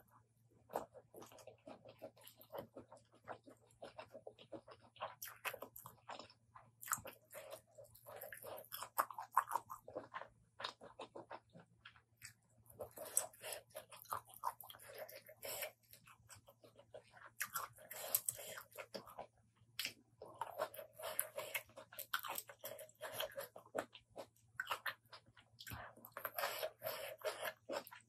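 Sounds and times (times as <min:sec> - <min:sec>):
chewing with crunches: 0:00.0 - 0:28.0.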